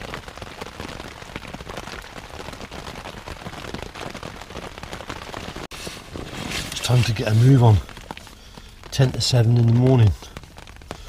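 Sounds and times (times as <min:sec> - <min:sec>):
rain pattering on tent canvas: 0:00.0 - 0:11.0.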